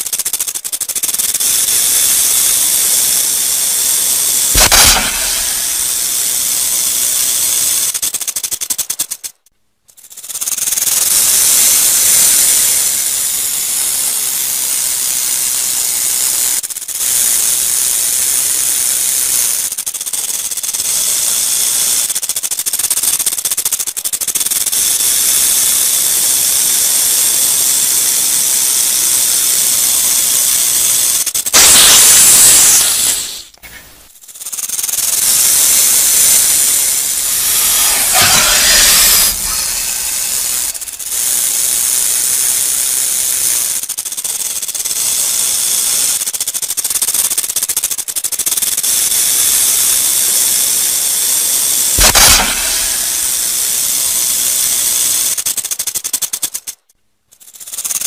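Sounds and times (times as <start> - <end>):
rattlesnake tail rattling: 0.0 - 58.0.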